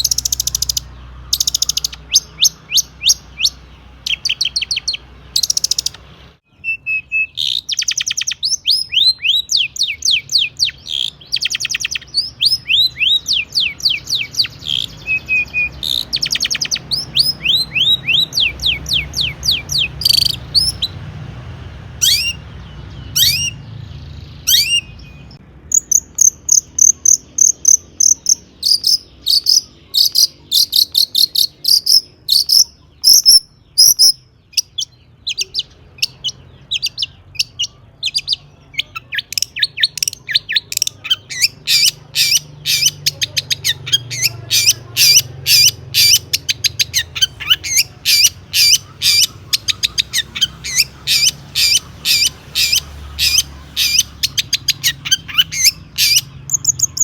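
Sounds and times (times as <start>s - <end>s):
shrike singing: 0.0s - 57.0s.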